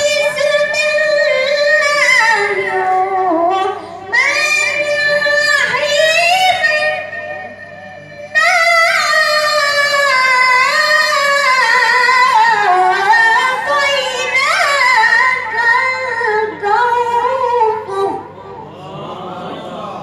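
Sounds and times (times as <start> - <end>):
boy reciting melodically: 0.0 - 20.0.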